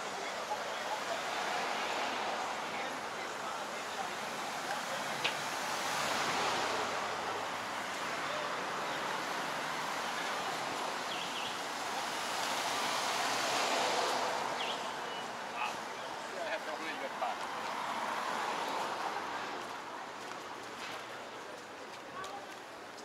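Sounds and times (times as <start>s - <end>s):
traffic passing: 0.0s - 23.0s.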